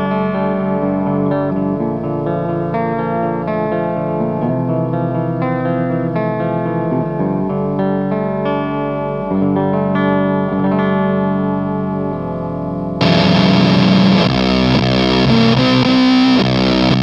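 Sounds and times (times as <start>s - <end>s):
clean electric guitar chords: 0.0s - 17.0s.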